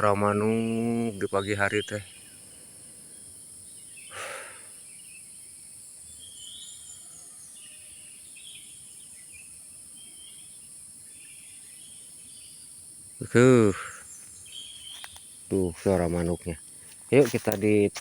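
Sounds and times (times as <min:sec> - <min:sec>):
birds calling and chirping: 0:00.0 - 0:18.0.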